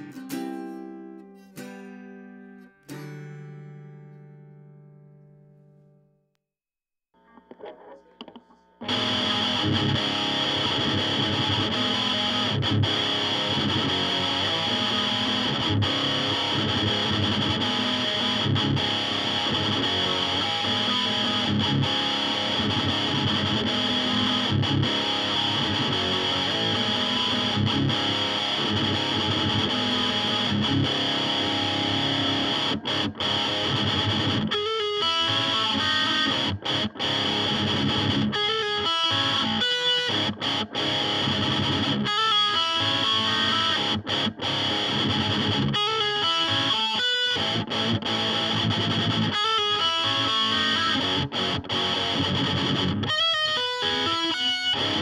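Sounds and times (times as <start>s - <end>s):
distorted electric guitar: 7.2s - 55.0s.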